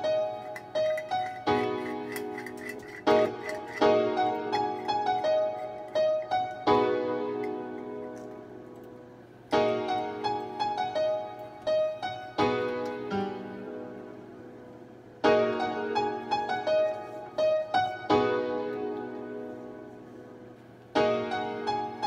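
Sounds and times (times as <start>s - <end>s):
piano-like chords ringing: 0.0s - 22.0s.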